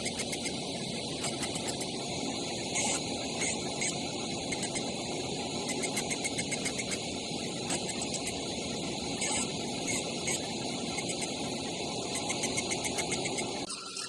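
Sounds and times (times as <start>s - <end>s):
laser engraving machine hiss: 0.0s - 14.0s.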